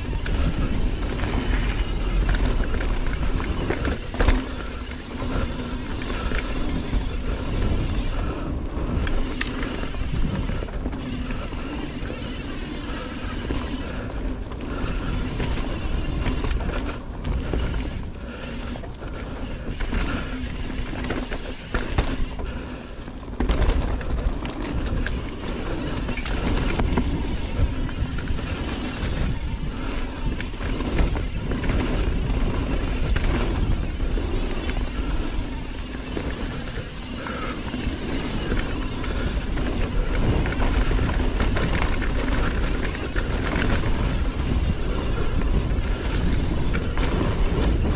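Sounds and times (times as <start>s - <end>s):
bike frame rattling: 0.0s - 47.9s
bike jolting over bumps: 0.0s - 47.9s
bike tyres on dirt: 0.0s - 47.9s
wind rumbling on microphone: 0.0s - 47.9s.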